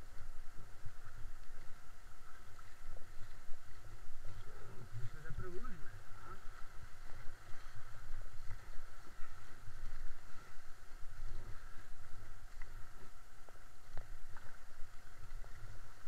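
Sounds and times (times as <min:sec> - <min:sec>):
paddle knocks and splashes: 0:00.0 - 0:16.0.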